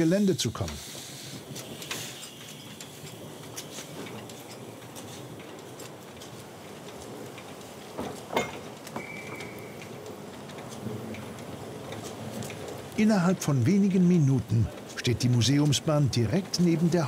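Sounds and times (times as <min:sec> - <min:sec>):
light ticks and clanks: 0:00.0 - 0:17.0
steam locomotive hissing: 0:00.0 - 0:17.0.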